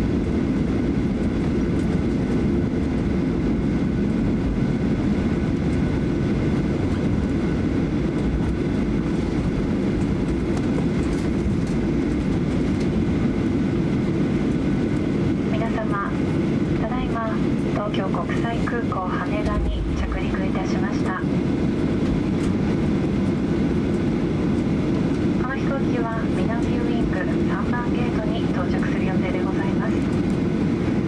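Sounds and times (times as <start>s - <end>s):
airplane cabin rumble: 0.0s - 31.0s.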